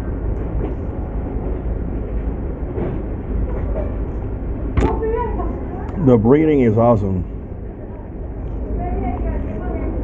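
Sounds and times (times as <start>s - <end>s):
low rumbling noise: 0.0s - 10.0s.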